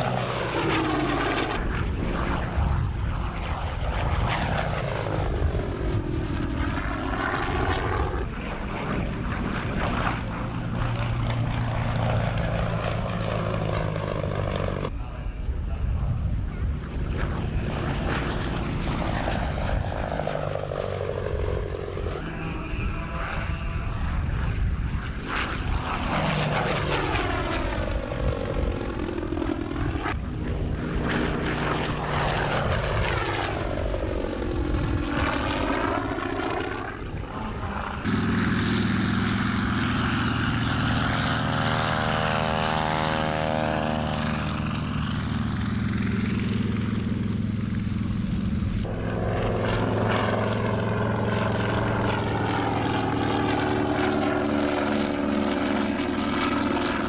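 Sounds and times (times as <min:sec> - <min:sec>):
propeller plane flying past: 0:00.0 - 0:57.0
radial engine droning: 0:00.0 - 0:57.0.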